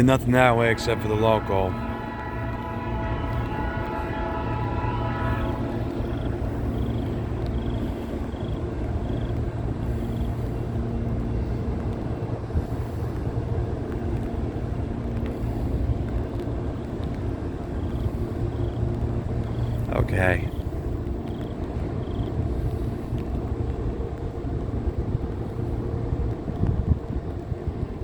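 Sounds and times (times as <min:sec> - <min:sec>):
locomotive engine rumble: 0:00.0 - 0:28.0.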